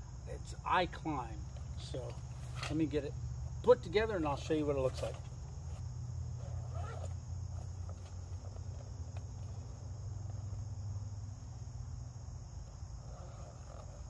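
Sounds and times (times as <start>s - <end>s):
high-pitched insect chorus: 0.0s - 14.0s
low steady hum: 0.0s - 14.0s.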